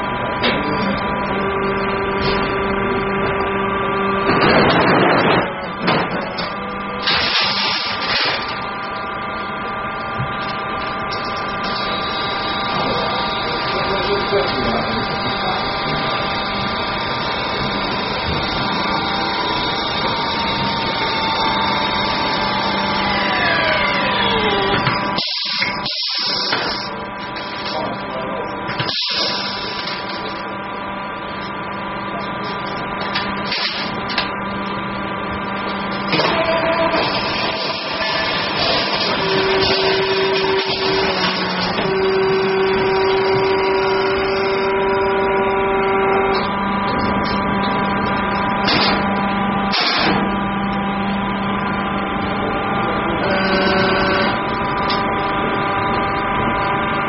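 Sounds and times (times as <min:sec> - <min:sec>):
machinery hum: 0:00.0 - 0:57.0
whining machine tones: 0:00.0 - 0:57.0.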